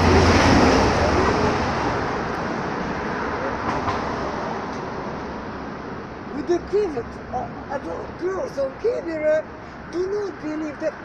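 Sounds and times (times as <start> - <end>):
road vehicle passing: 0.0 - 11.0.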